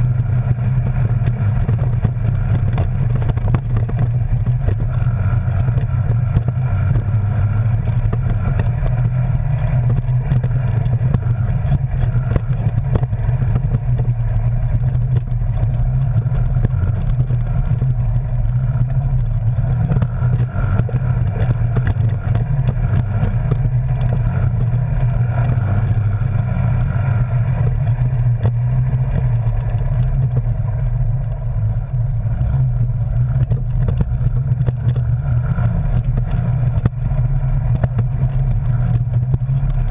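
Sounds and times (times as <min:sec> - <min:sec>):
rattles and knocks over bumps: 0:00.0 - 0:39.9
vehicle engine droning: 0:00.0 - 0:39.9.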